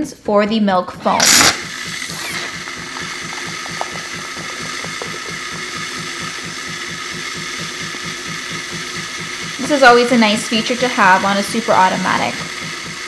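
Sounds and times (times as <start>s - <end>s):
espresso machine frothing milk: 1.2s - 13.0s.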